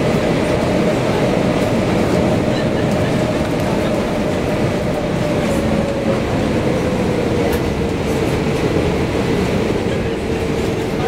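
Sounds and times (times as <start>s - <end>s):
aircraft cabin engine rumble and whine: 0.0s - 8.9s, 9.7s - 11.0s.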